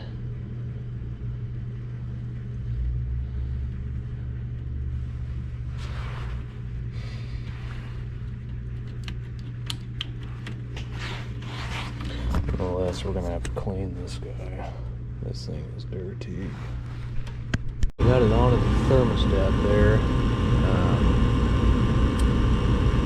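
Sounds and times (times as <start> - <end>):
furnace blower fan humming: 0.0 - 23.0.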